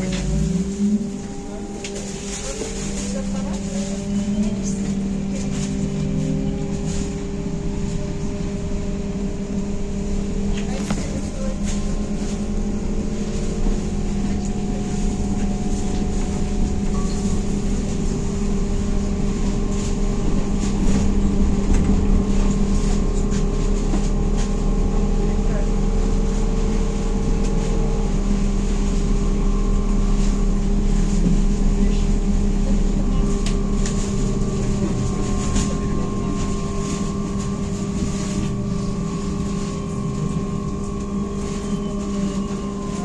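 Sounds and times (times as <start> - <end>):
electric traction drive humming: 0.0 - 43.0
low road rumble: 0.0 - 43.0.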